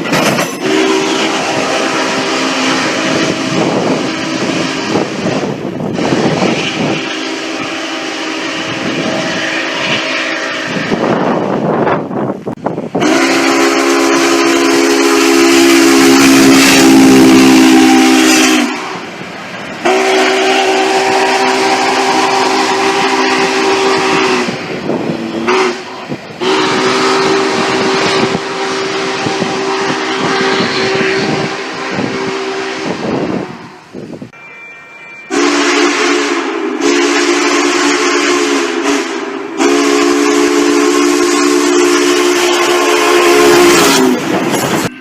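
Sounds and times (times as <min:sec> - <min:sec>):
steam locomotive chime whistle: 0:00.0 - 0:11.3, 0:13.0 - 0:19.2, 0:19.8 - 0:45.0
train noise with hiss: 0:00.0 - 0:45.0.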